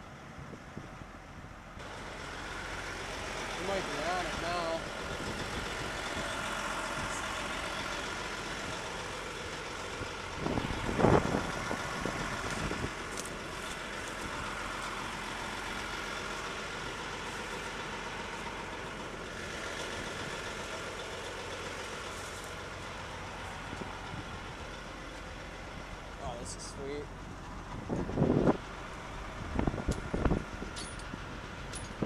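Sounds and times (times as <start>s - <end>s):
diesel equipment idling: 0.0s - 32.0s.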